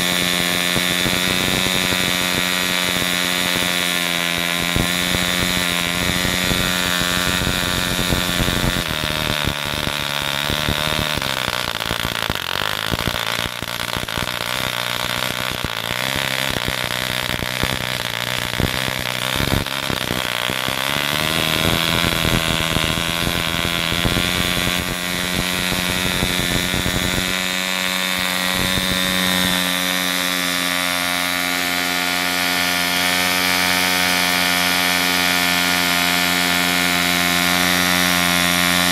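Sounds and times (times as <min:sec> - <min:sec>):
model airplane engine buzzing: 0:00.0 - 0:38.9.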